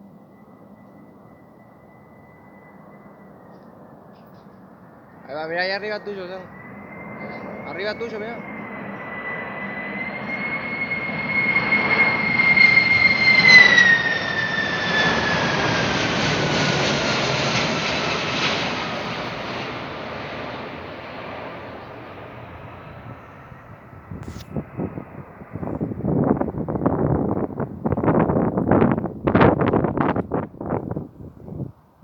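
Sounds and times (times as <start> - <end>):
jet plane flying low overhead: 0.0 - 32.0.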